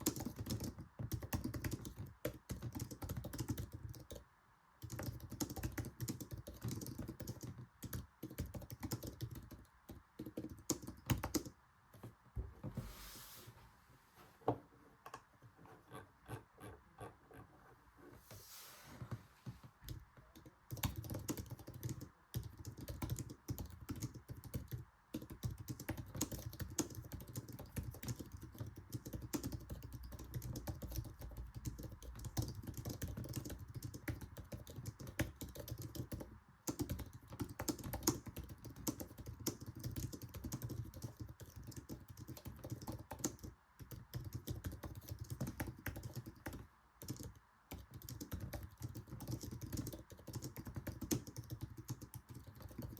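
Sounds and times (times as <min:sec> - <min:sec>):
fast keyboard typing: 0:00.0 - 0:04.2, 0:04.8 - 0:11.5, 0:19.9 - 0:52.9.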